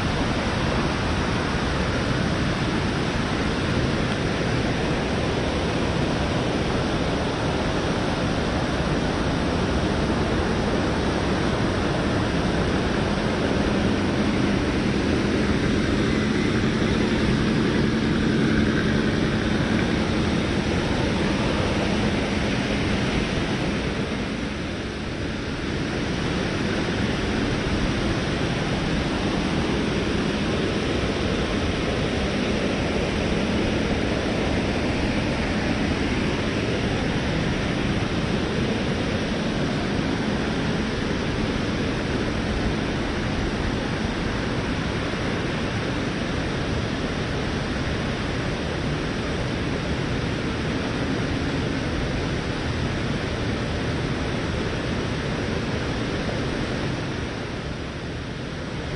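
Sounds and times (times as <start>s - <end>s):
waterfall and rushing river: 0.0s - 58.9s.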